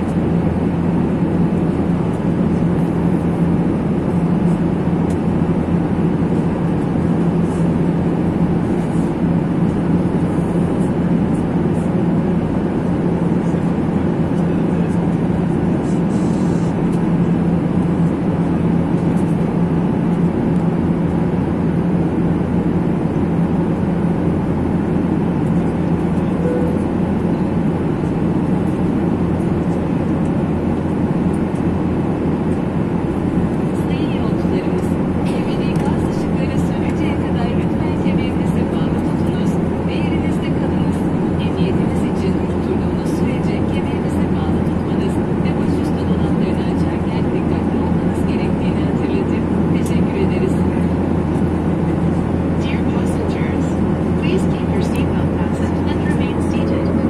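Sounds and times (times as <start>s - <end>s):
aircraft cabin engine and airflow rush: 0.0s - 57.0s
low steady hum: 0.0s - 57.0s.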